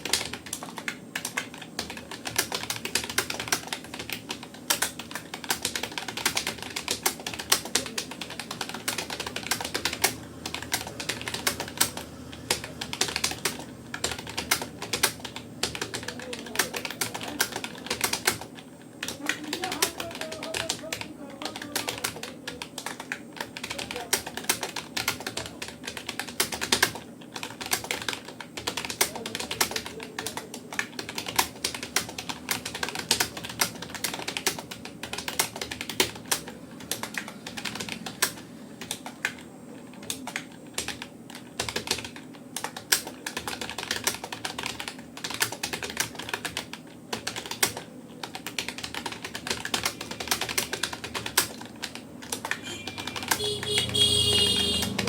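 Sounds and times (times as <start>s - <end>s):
fast keyboard typing: 0.0s - 55.0s.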